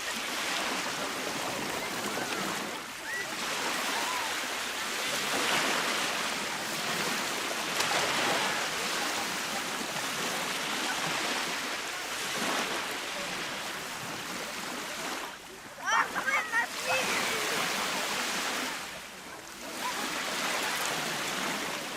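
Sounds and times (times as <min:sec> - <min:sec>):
small waves breaking on shore: 0:00.0 - 0:21.9.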